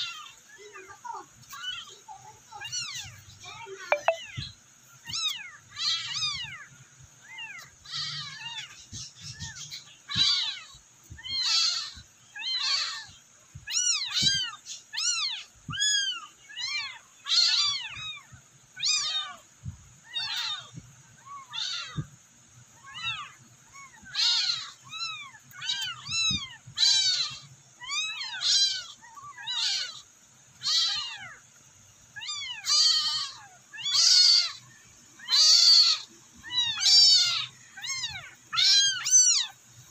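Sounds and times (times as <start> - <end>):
newborn kittens meowing: 5.1 - 19.4, 20.0 - 22.2, 22.8 - 31.4, 32.2 - 39.6.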